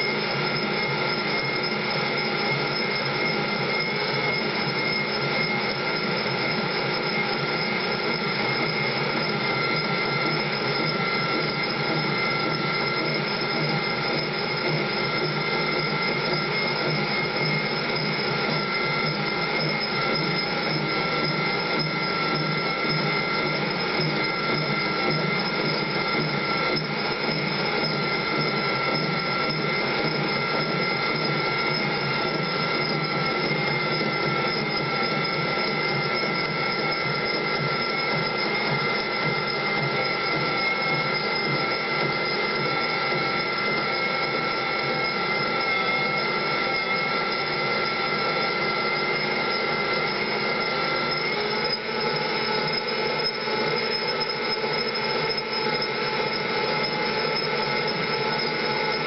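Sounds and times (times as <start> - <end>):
machine whining: 0.0 - 59.0.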